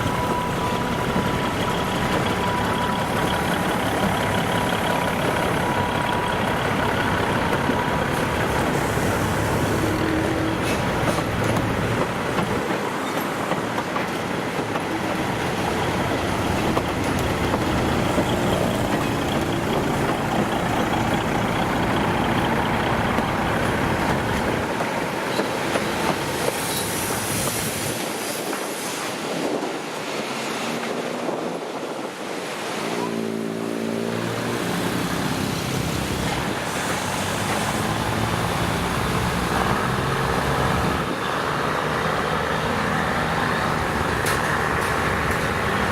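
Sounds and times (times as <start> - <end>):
railcar rumble and rattle: 0.0 - 45.9.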